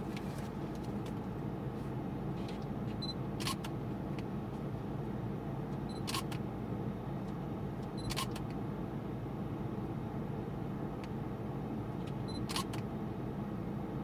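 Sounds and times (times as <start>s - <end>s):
car cabin low hum: 0.0s - 14.0s.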